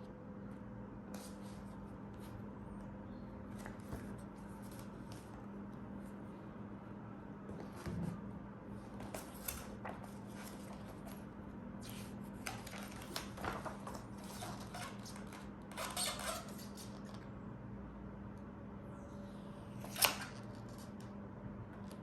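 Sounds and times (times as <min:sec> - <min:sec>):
steady low hum: 0:00.0 - 0:14.7, 0:16.9 - 0:22.0.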